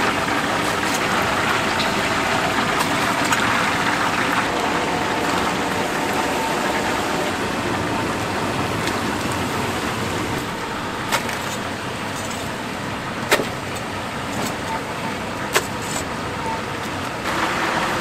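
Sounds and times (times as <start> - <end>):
oil sizzling and bubbling: 0.0 - 16.4, 17.0 - 18.0.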